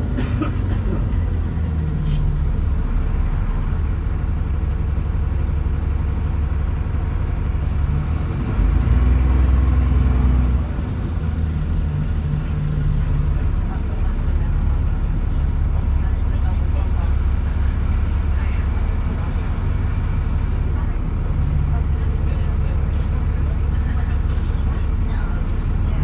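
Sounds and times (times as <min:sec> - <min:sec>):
bus diesel engine running: 0:00.0 - 0:26.0
road rumble: 0:00.0 - 0:26.0.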